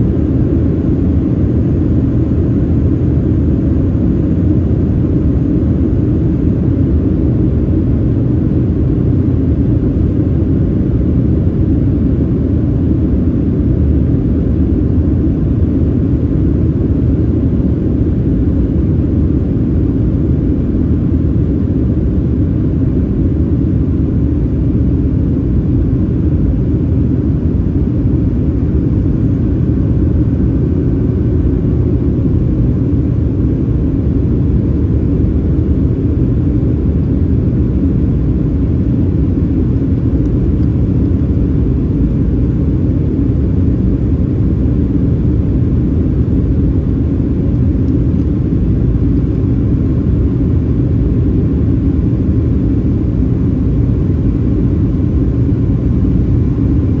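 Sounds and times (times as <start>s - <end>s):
jet engines in flight: 0.0s - 57.0s.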